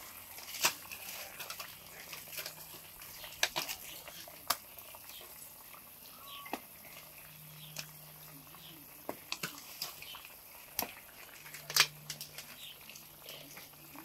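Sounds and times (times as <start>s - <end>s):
wood fire clicks and pops: 0.0s - 5.4s, 6.5s - 14.0s
pan hissing over fire: 0.0s - 14.0s.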